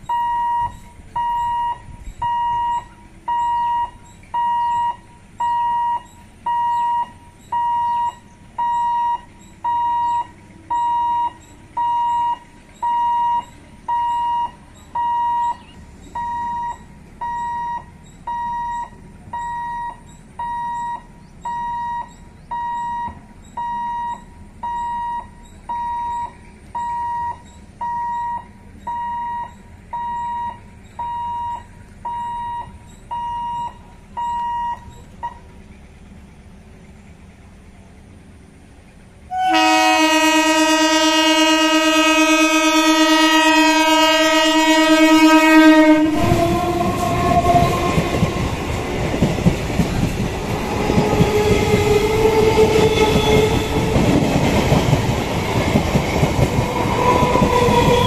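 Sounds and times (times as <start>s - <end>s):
level-crossing warning beeps: 0.0s - 35.5s, 42.9s - 58.0s.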